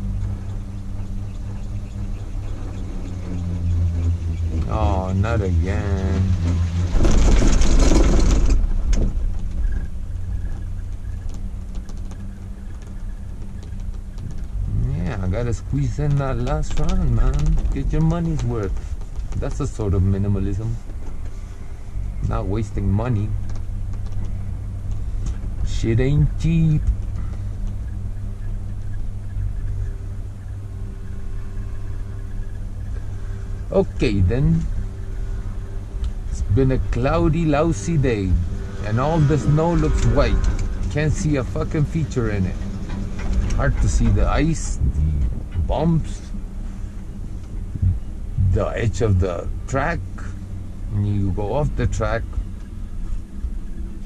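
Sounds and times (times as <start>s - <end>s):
chair on cable humming: 0.0s - 54.0s
chairlift rumbling rush: 0.0s - 54.0s.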